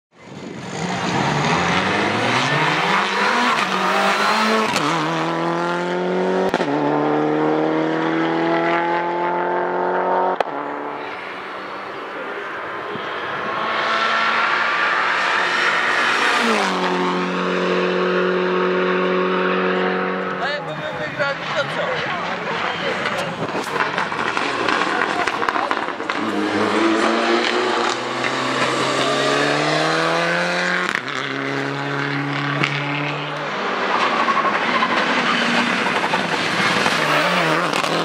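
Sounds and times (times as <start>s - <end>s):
rally car engine accelerating: 0.3s - 38.0s.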